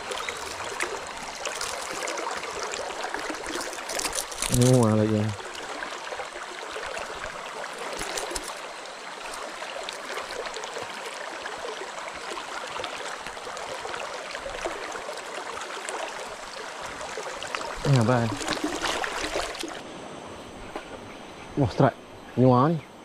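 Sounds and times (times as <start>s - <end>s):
stream water rushing: 0.0s - 20.6s.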